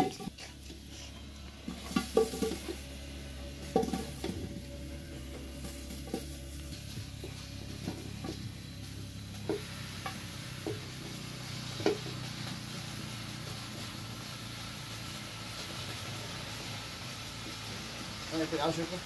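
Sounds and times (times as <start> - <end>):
fries sizzling in hot oil: 0.0 - 19.0.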